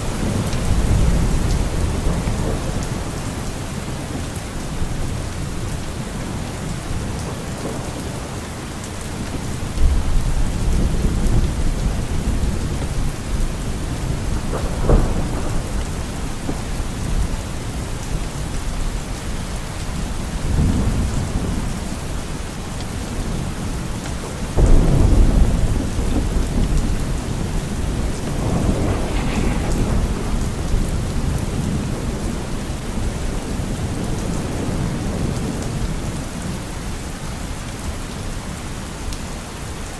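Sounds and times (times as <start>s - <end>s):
rolling thunder: 0.0s - 8.4s, 9.2s - 21.9s, 24.6s - 36.6s
steady rain: 0.0s - 39.9s.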